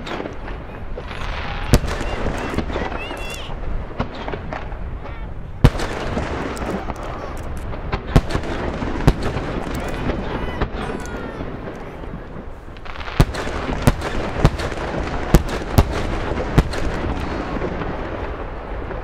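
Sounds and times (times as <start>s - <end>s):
fireworks bangs: 0.0s - 19.0s
outdoor crowd murmur: 0.0s - 19.0s.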